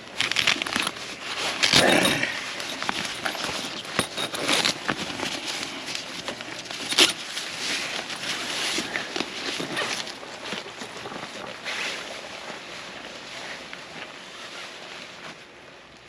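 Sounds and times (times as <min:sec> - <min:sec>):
fabric rustling: 0:00.0 - 0:15.8.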